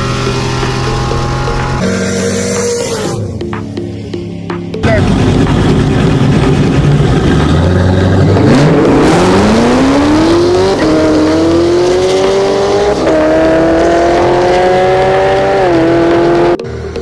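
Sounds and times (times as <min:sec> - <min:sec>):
car engine accelerating hard: 0:00.0 - 0:03.3, 0:04.8 - 0:17.0.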